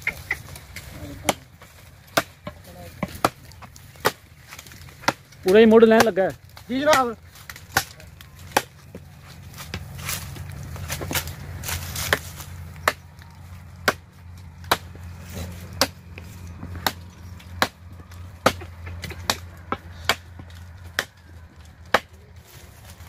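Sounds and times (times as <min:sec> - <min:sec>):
blade chopping wood: 0:00.0 - 0:09.0, 0:09.6 - 0:13.2, 0:13.8 - 0:22.2.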